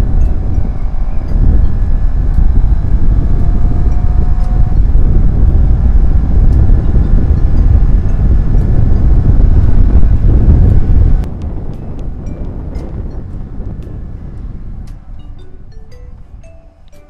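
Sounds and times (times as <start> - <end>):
motorcycle engine running: 0.0 - 16.5
wind buffeting microphone: 0.0 - 17.0.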